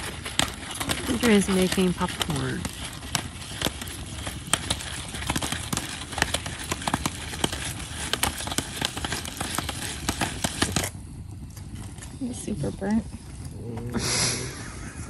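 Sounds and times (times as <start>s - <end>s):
campfire crackling and snapping: 0.0s - 14.2s.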